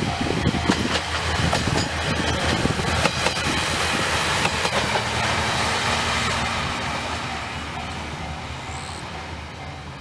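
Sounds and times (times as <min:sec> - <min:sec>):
railcar diesel engine drone: 0:00.0 - 0:10.0
train wheels clicking over rail joints: 0:00.0 - 0:10.0.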